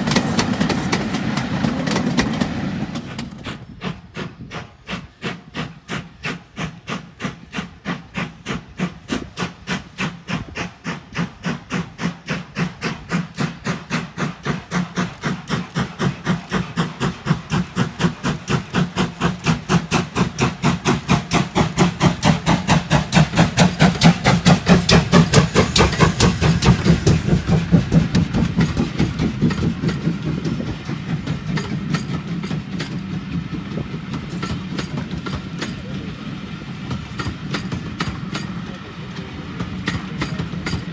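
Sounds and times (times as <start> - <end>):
steam locomotive chuffing: 0.0 - 40.9.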